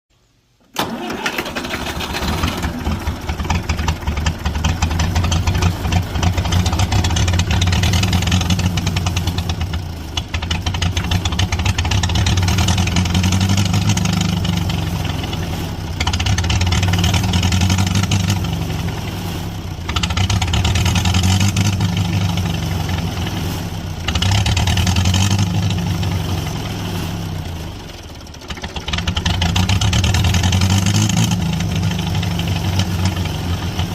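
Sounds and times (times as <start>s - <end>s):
diesel tractor engine running: 0.7s - 33.9s.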